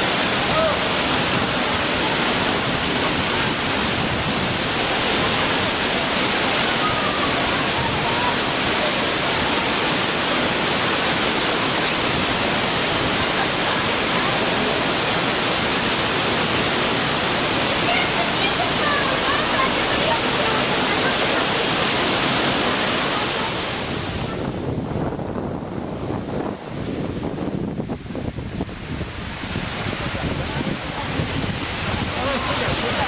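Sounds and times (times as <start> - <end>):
waterfall rushing: 0.0 - 33.0
faint voices: 0.1 - 24.9, 29.6 - 33.0.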